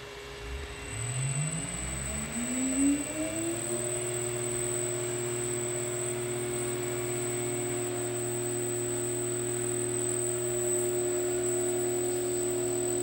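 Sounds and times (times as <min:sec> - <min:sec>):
electric motor hum: 0:00.0 - 0:13.0
steady high whine: 0:00.0 - 0:13.0.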